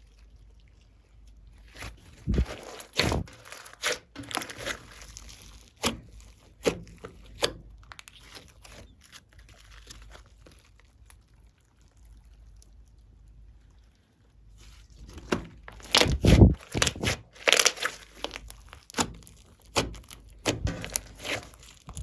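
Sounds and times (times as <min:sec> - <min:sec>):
slime crackling and squelching: 0:00.0 - 0:22.0.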